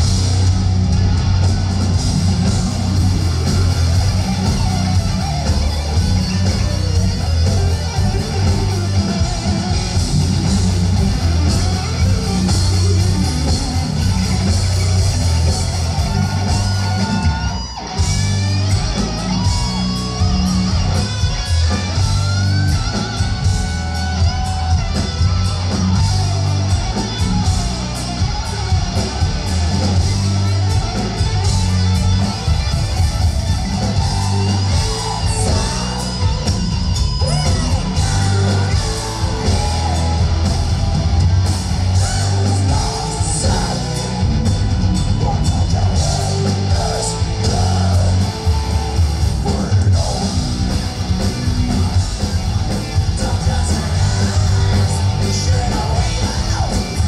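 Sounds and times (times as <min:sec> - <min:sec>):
bass: 0:00.0 - 0:57.0
drums: 0:00.0 - 0:57.0
electric guitars: 0:00.0 - 0:57.0.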